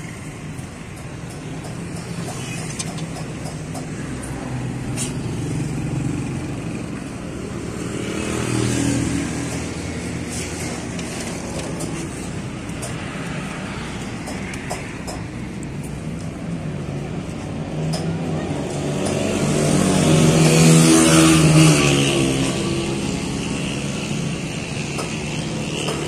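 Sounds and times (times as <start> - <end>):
passing road traffic: 0.0 - 26.0.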